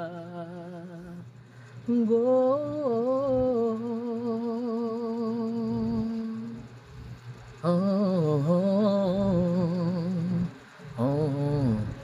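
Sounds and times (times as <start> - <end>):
person humming with vibrato: 0.0 - 1.3, 1.9 - 6.7, 7.6 - 12.0.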